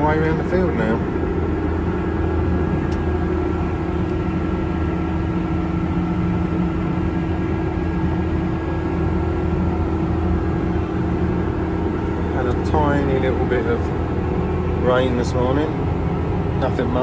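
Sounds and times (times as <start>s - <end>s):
faint steady whine: 0.0s - 17.0s
tractor diesel engine droning: 0.0s - 17.0s.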